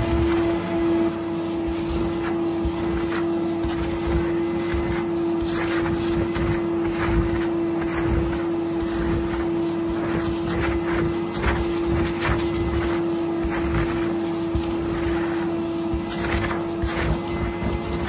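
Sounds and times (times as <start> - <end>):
vacuum cleaner motor whine: 0.0 - 18.0
vacuum tool swishing over rug: 0.0 - 18.0.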